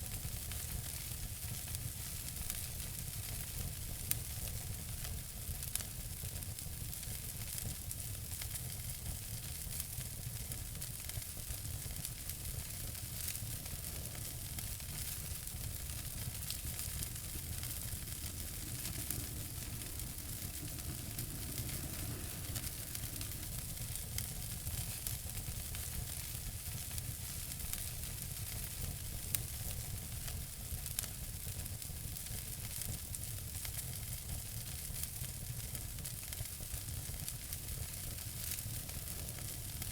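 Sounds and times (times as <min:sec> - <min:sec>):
fire crackles and pops: 0:00.0 - 0:39.9
fire hissing in a fireplace: 0:00.0 - 0:39.9.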